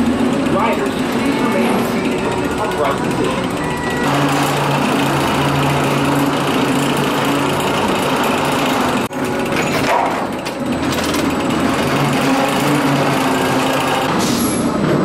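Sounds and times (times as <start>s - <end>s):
construction machinery engine hum: 0.0s - 15.0s
dense mechanical noise: 0.0s - 15.0s.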